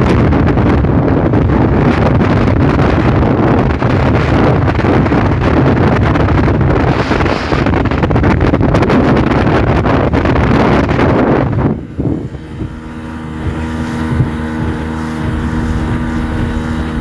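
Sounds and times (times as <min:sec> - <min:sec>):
speedboat engine running: 0:00.0 - 0:17.0
wind buffeting microphone: 0:00.0 - 0:17.0.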